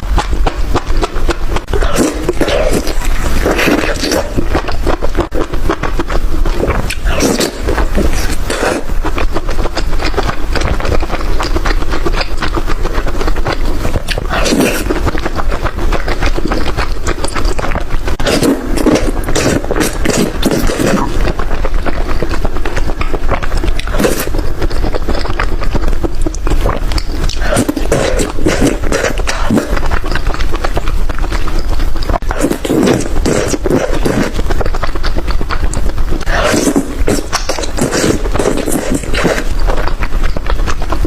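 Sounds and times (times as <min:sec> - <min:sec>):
close chewing and crunching: 0:00.0 - 0:41.0
wet mouth noises: 0:00.0 - 0:41.0.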